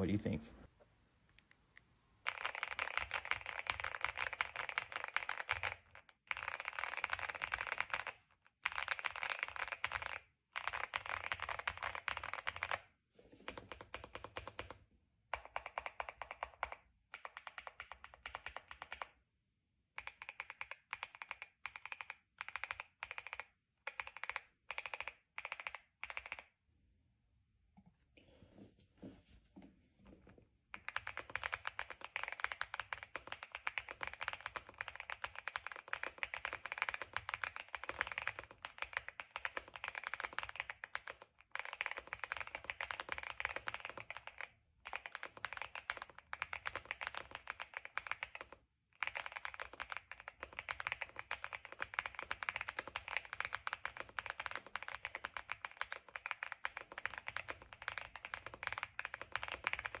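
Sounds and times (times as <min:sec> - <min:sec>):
mechanical keyboard typing: 0:02.2 - 0:12.9, 0:13.5 - 0:14.8, 0:15.4 - 0:19.2, 0:20.0 - 0:26.5, 0:30.7 - 1:00.0.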